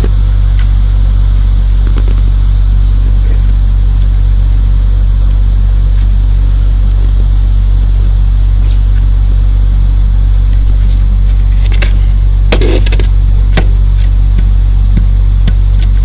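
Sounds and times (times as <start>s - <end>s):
insects chirping: 0.0s - 16.0s
loud low rumble: 0.0s - 16.0s.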